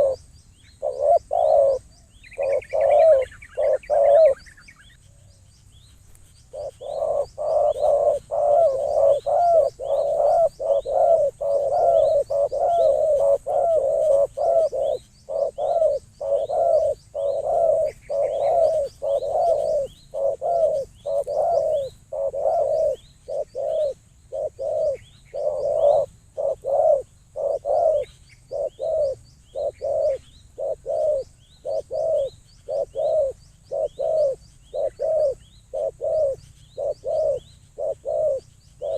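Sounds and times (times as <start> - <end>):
faint high bird chirps: 0.0 - 38.9.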